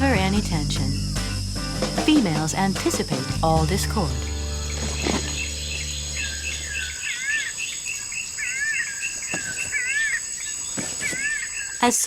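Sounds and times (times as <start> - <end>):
high insect drone: 0.0 - 11.9
wavering animal calls: 0.9 - 11.8.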